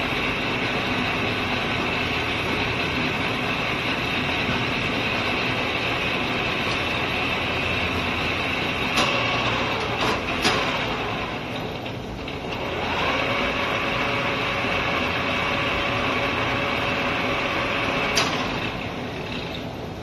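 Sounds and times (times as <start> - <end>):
lathe spindle whining: 0.0 - 20.0.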